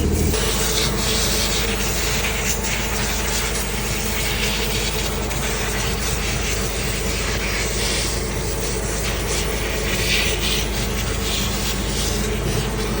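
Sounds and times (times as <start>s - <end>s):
diesel generator running: 0.0s - 13.0s.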